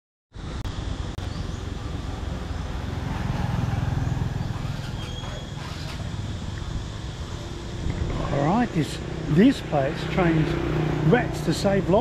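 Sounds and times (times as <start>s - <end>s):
vehicle engine passing: 1.2s - 12.0s.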